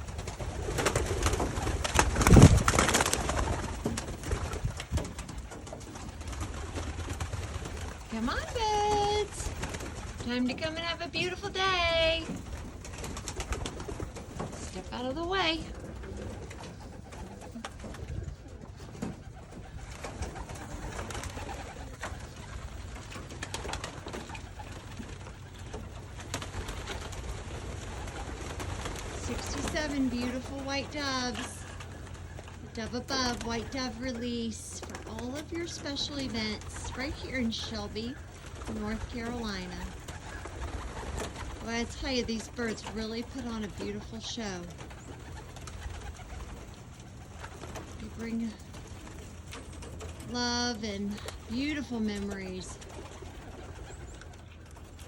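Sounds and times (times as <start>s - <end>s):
clicks and knocks of birds moving: 0.0s - 55.0s
doves cooing: 0.0s - 55.0s
rustles: 0.0s - 55.0s.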